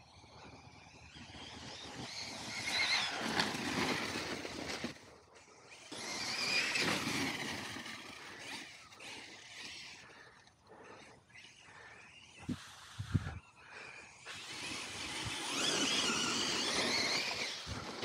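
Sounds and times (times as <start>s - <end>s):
rc truck motor whine: 0.0s - 18.0s
tyre and drivetrain noise: 0.0s - 18.0s.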